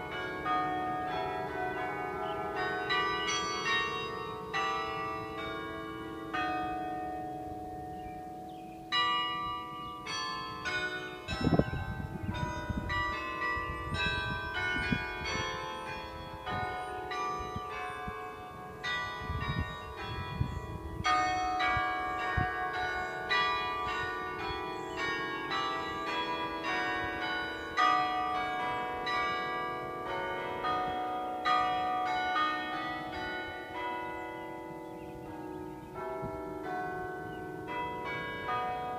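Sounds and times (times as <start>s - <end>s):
carillon bells playing a tune: 0.0s - 38.9s.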